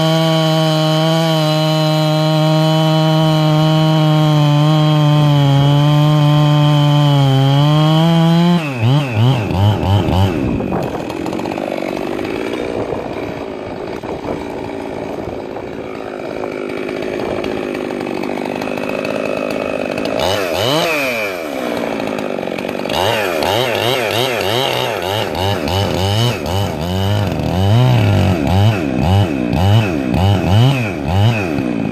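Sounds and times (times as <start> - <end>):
chainsaw cutting wood: 0.0 - 31.9
chainsaw running and revving: 0.0 - 31.9.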